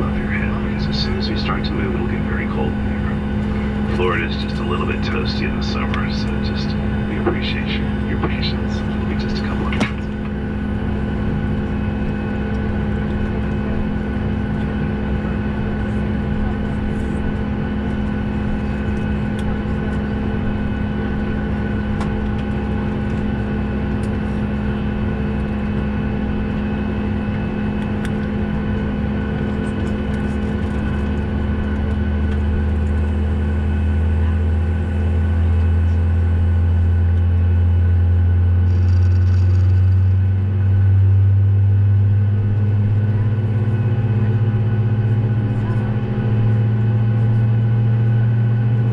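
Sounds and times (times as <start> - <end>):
airliner cabin drone: 0.0 - 48.9
deep hum: 0.0 - 48.9.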